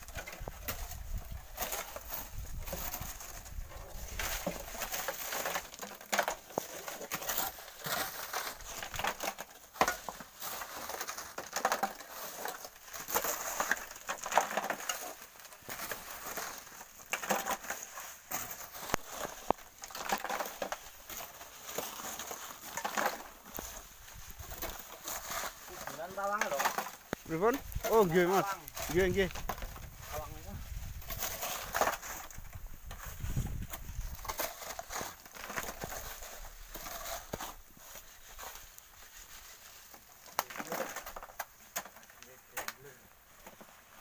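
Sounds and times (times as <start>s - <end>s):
rocks dropped into metal wheelbarrow: 0.0s - 37.7s, 40.2s - 43.8s
tools scraping gritty sand: 0.1s - 44.0s.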